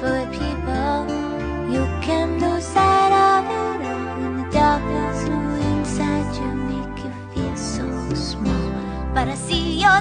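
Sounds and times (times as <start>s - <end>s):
melodic song playing: 0.0s - 10.0s.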